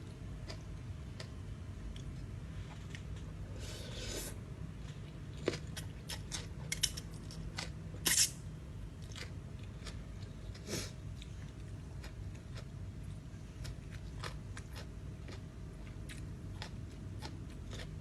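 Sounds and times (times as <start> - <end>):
steady low hum: 0.0 - 18.0
person chewing crunchy food: 0.4 - 8.4, 9.0 - 18.0.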